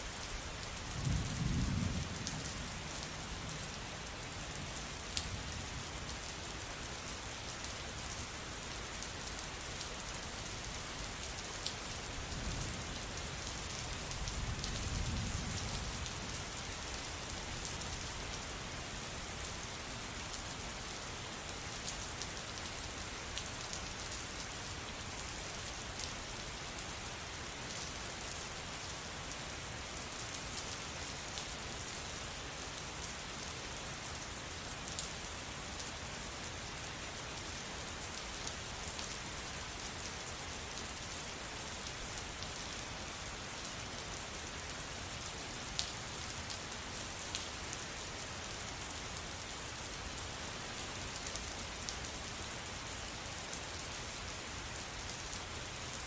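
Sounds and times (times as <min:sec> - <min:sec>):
steady rain on a surface: 0:00.0 - 0:56.0.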